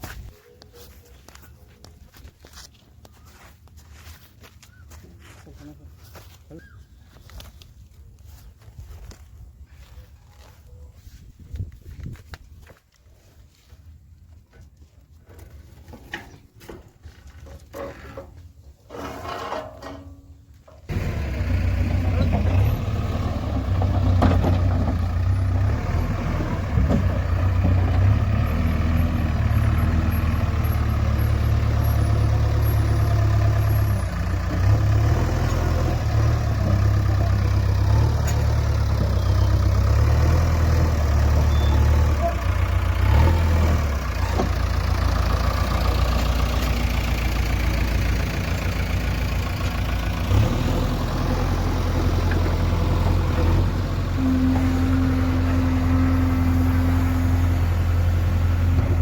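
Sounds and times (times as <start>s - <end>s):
diesel engine running at low speed: 3.1s - 59.0s.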